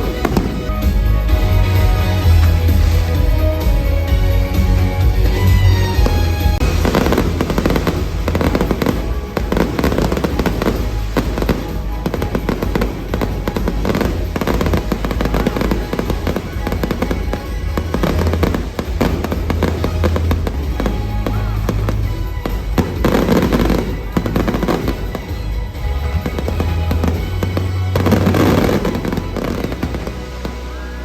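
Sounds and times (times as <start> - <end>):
fireworks bangs and crackles: 0.0 - 31.0
music with steady bass: 0.0 - 31.0.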